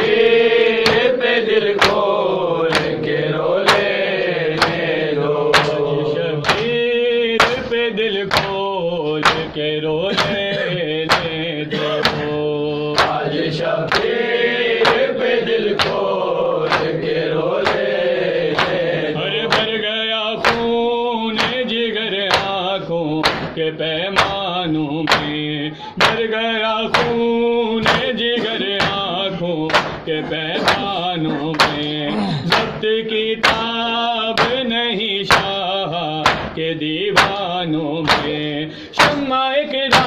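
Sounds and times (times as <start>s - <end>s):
palms slapping chests: 0.0s - 21.6s, 22.2s - 26.3s, 26.9s - 33.8s, 34.4s - 40.0s
men chanting: 0.0s - 40.0s.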